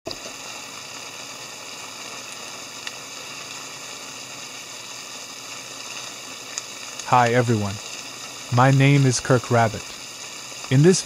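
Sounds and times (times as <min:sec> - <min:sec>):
food simmering in frying pan: 0:00.1 - 0:11.0.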